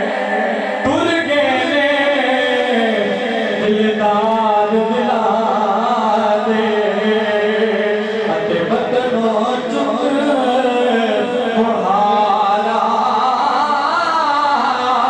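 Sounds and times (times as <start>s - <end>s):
men singing devotional song: 0.0s - 15.0s.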